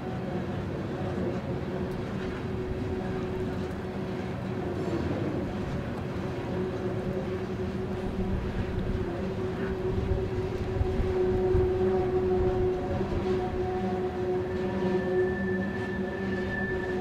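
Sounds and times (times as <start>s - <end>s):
rumble of train wheels on rail: 0.0s - 17.0s
steady droning tone: 0.0s - 17.0s.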